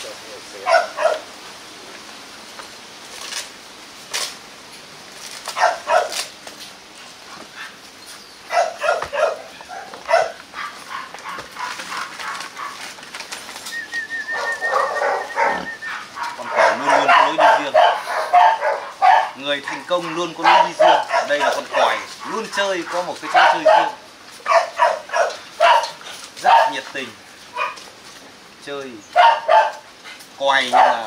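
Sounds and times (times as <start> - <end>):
puppies yapping and barking: 0.5 - 1.3, 5.5 - 6.2, 6.9 - 28.4, 29.0 - 31.0.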